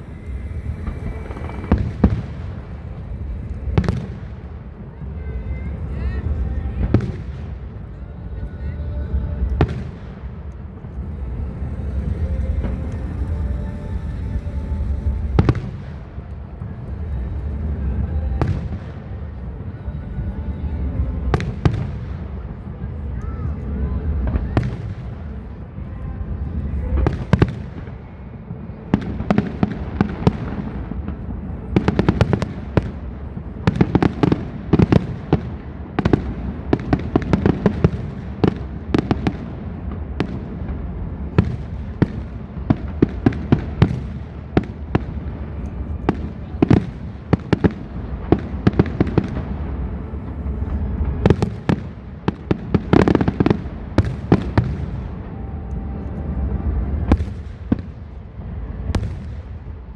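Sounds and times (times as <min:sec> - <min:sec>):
fireworks bangs and crackles: 0:00.0 - 0:59.9
low rumble: 0:00.0 - 0:59.9.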